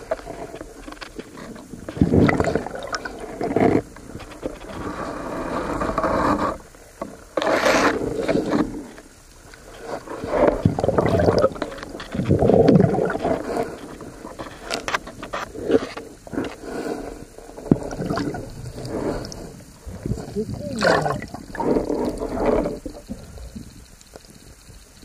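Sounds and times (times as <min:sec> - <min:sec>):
underwater water swishing: 0:00.0 - 0:25.0.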